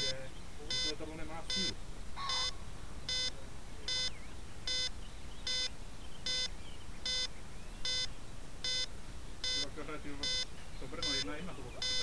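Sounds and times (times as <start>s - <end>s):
electronic beeper short beeps: 0.0s - 4.9s, 5.5s - 5.7s, 6.3s - 6.5s, 7.1s - 12.0s.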